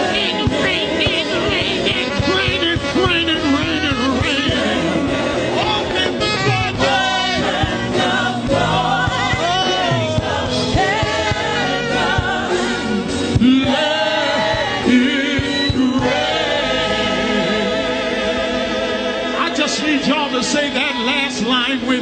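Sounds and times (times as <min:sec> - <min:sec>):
gospel choir singing: 0:00.0 - 0:22.0
instrumental backing: 0:00.0 - 0:22.0.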